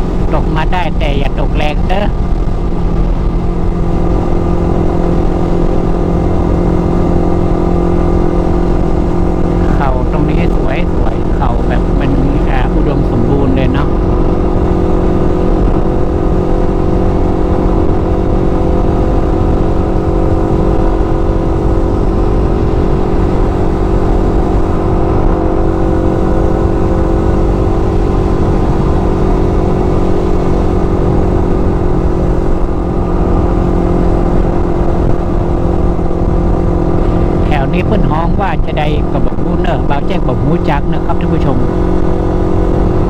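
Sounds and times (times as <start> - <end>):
motorcycle engine cruising: 0.0 - 43.0
wind rumble on microphone: 0.0 - 43.0.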